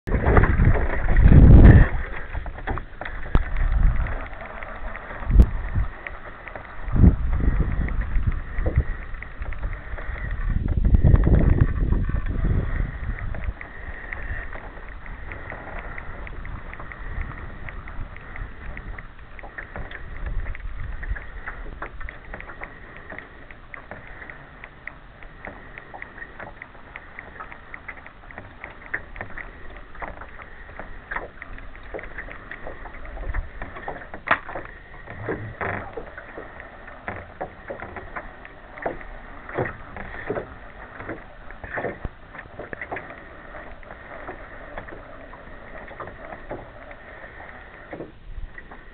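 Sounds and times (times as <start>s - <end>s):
water lapping against boat hull: 0.0s - 48.9s
wind rumble on microphone: 0.0s - 48.9s.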